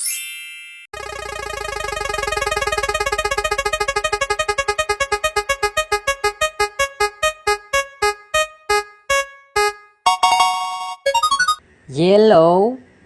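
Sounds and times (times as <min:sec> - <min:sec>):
synthesized keyboard note repeating: 0:01.0 - 0:11.6.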